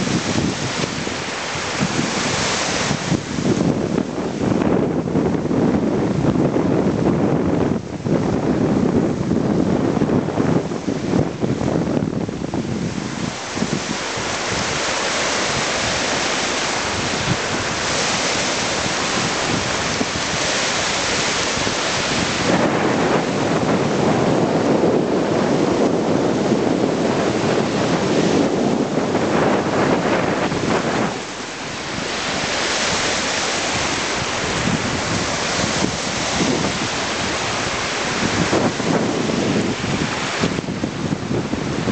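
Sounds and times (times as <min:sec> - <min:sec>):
waves breaking on rocky shore: 0:00.0 - 0:41.9
wind buffeting microphone: 0:00.0 - 0:41.9.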